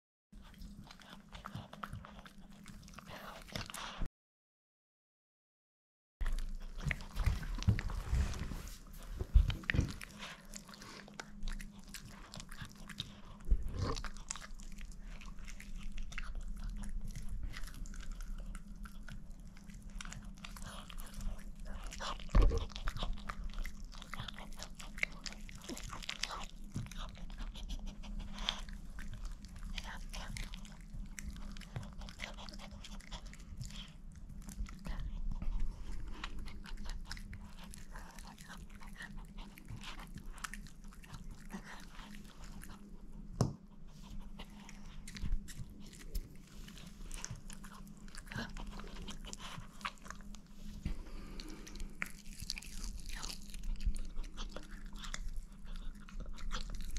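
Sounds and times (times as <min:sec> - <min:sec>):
dog chewing and crunching food: 0:00.4 - 0:04.1, 0:06.2 - 0:56.9
faint low hum: 0:06.2 - 0:56.9.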